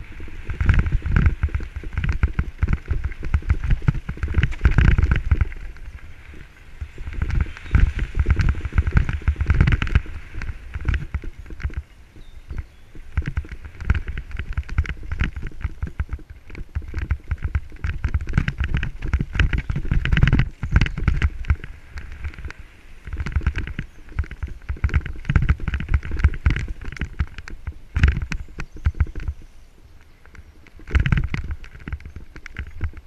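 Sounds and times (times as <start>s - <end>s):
bike rattling and clattering: 0.0s - 33.0s
tyre noise on dirt: 0.0s - 33.0s
wind rumble on microphone: 0.0s - 33.0s.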